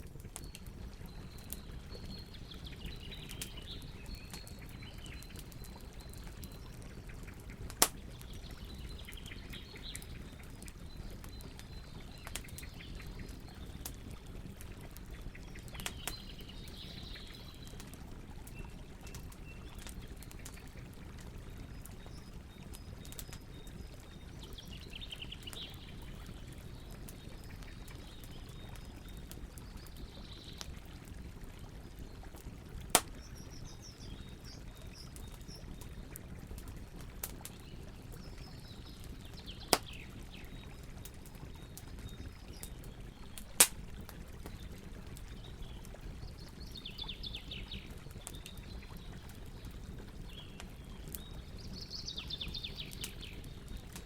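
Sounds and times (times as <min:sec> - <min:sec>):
campfire crackling and popping: 0:00.0 - 0:54.0
birds singing: 0:00.4 - 0:30.7, 0:33.1 - 0:36.2, 0:37.4 - 0:43.6, 0:44.4 - 0:53.8.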